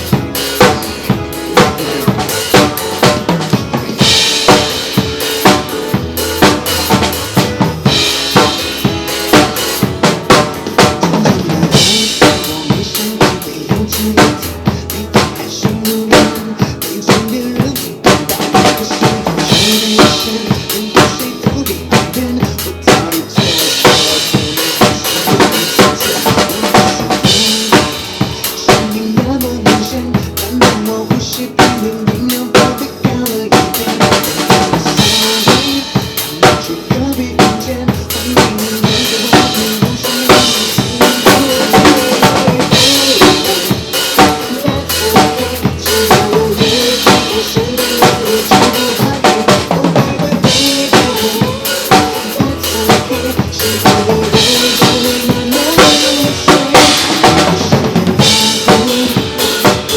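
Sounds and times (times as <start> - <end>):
drum kit playing pop groove: 0.0 - 59.9
recorded backing track: 0.0 - 59.9.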